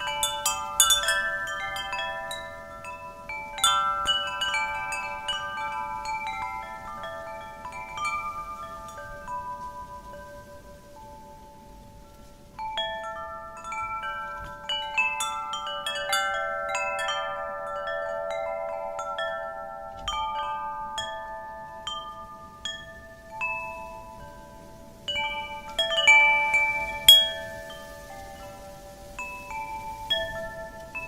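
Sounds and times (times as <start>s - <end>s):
wind chimes ringing: 0.0s - 31.0s.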